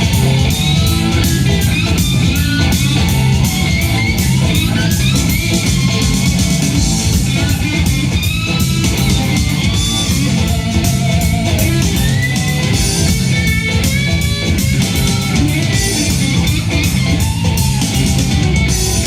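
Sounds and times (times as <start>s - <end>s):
rock music from cassette: 0.0s - 19.0s.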